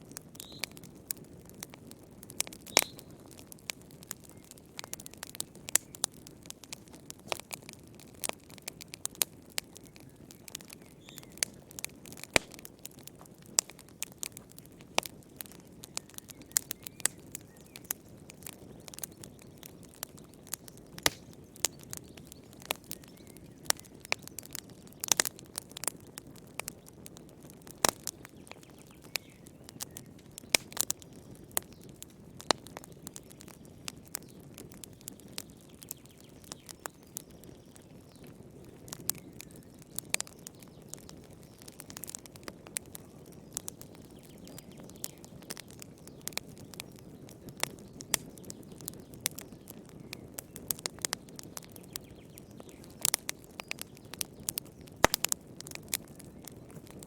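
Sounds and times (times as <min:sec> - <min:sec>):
soft rustle of flame: 0:00.0 - 0:57.0
wood fire crackling and popping: 0:00.0 - 0:57.0.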